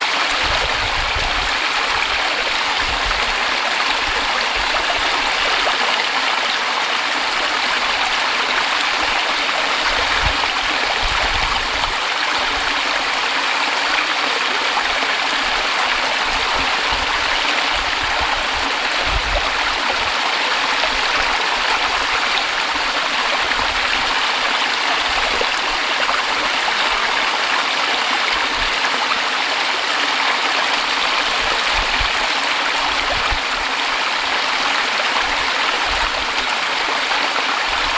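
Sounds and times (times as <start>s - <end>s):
stream splashing over rocks: 0.0s - 37.9s.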